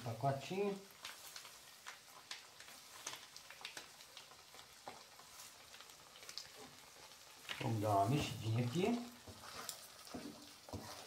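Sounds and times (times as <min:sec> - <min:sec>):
sausage sizzling in a wok: 0:00.0 - 0:11.0
small crackles and pops: 0:00.0 - 0:11.0.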